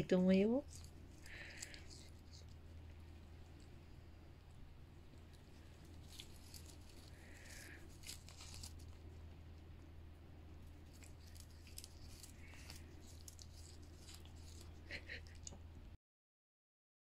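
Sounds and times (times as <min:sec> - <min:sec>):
corn husk leaves rustling: 0:00.0 - 0:09.5, 0:10.6 - 0:15.5
low steady hum: 0:00.0 - 0:16.0.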